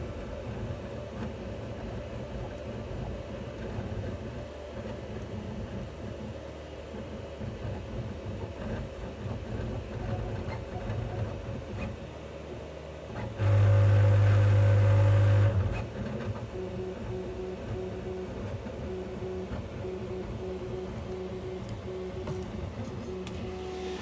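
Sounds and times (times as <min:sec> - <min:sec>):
printer motors and fans whirring: 0:00.0 - 0:24.0.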